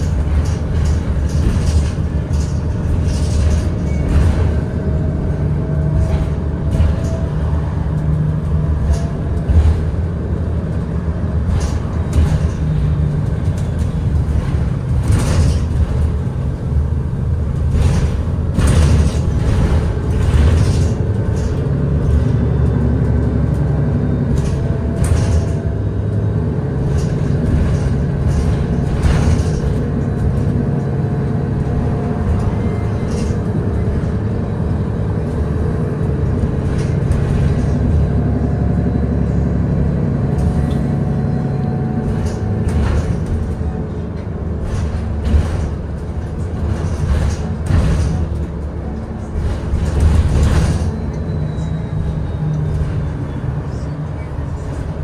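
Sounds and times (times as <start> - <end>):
bus body rattles and knocks: 0.0 - 55.0
bus drivetrain drone: 0.0 - 55.0.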